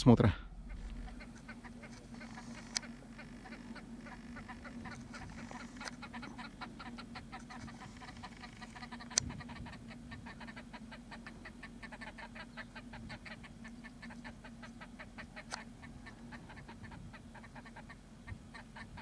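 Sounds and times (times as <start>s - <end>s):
faint steady hum: 0.0s - 19.0s
birds calling in short notes: 0.4s - 19.0s.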